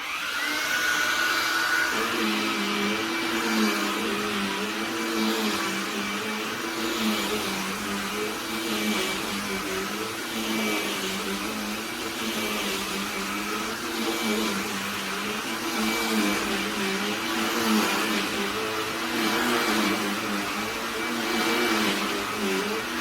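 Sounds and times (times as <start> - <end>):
handheld vacuum running: 0.0 - 23.0.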